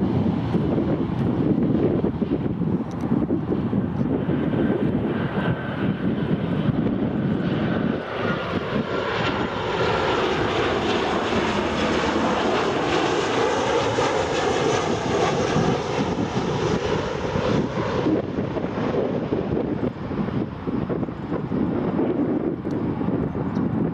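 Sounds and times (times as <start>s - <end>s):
jet engine whine: 0.0s - 23.9s
jet engines rumbling: 0.0s - 23.9s.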